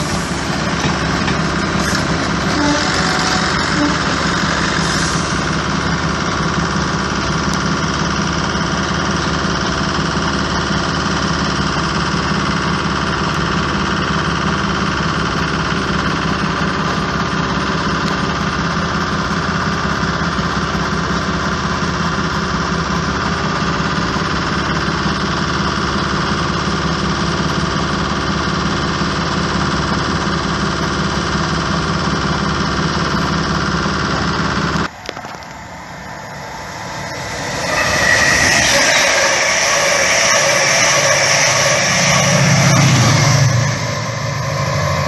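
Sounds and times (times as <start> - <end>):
diesel railway engine idling: 0.0 - 45.0.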